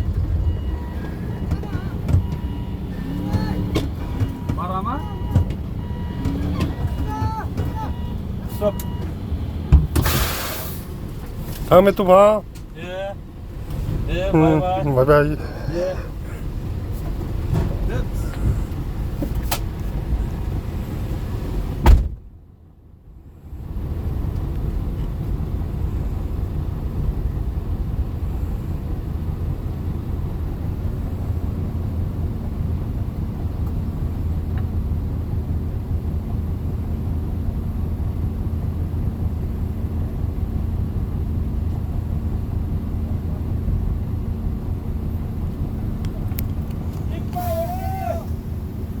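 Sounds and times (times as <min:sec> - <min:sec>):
engine and road rumble: 0:00.0 - 0:49.0.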